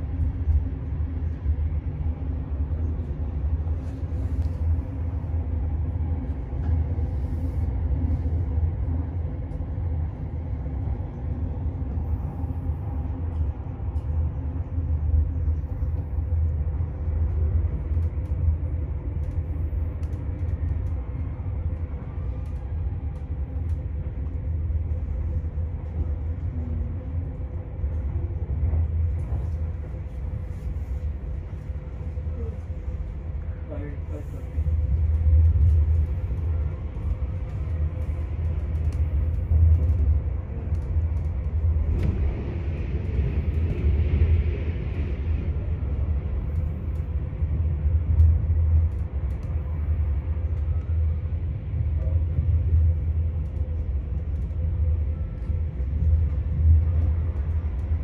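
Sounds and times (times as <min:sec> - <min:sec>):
faint steady hum: 0:00.0 - 0:58.0
train rumbling inside carriage: 0:00.0 - 0:58.0.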